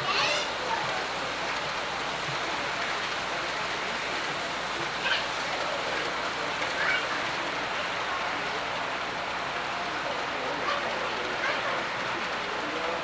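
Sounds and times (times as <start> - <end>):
metal wheels rushing on rails: 0.0 - 13.0.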